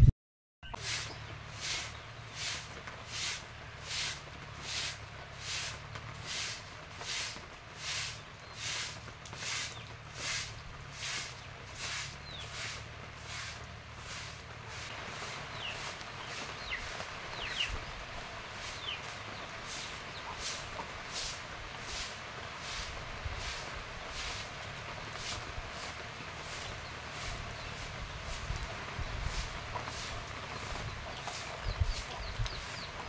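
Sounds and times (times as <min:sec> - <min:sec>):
straw broom sweeping earth: 0:00.7 - 0:33.0.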